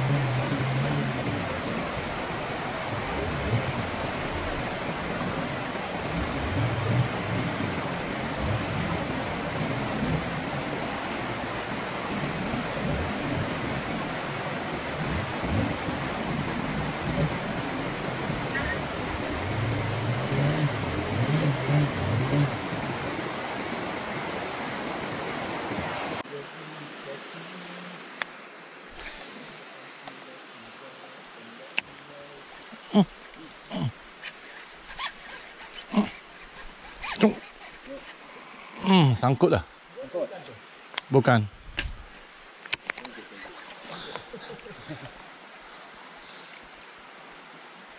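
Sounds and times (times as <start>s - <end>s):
insects buzzing: 0.0s - 47.9s
water rushing over rocks: 0.0s - 47.9s.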